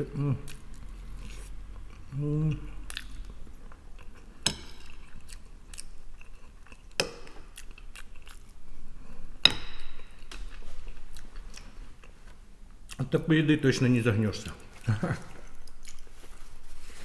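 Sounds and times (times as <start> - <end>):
person chewing food: 0.0 - 13.0, 14.7 - 17.0.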